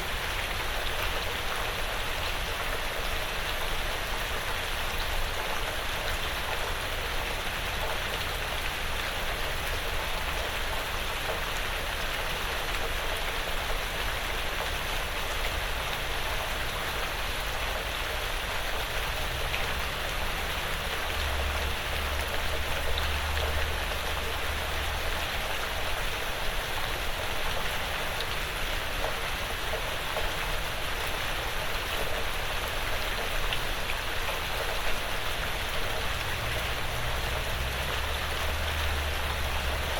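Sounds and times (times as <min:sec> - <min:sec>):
light rain on a roof: 0:00.0 - 0:39.9.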